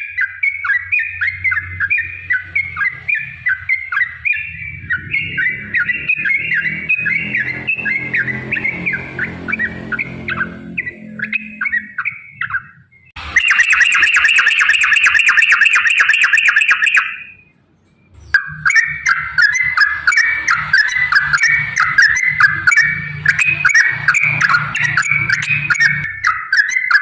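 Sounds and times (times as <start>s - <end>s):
birds chattering: 0.0s - 13.9s, 15.8s - 27.0s
long rapid bird trill: 0.0s - 27.0s.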